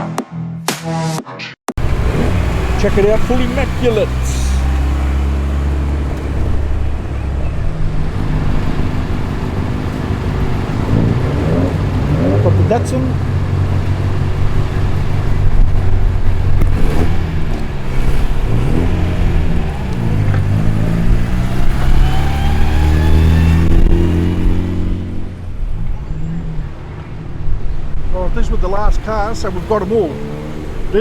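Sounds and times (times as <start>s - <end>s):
car engines revving past: 1.8s - 31.0s.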